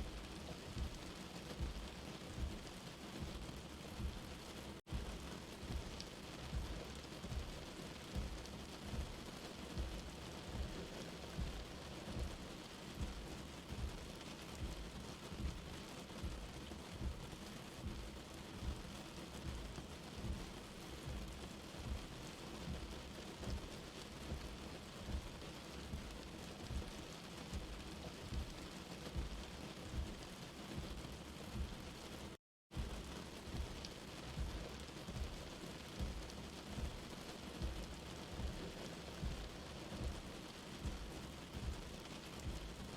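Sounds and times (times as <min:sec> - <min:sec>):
light rain falling: 0:00.0 - 0:42.9
soft low thumps: 0:00.1 - 0:12.4, 0:13.0 - 0:42.9.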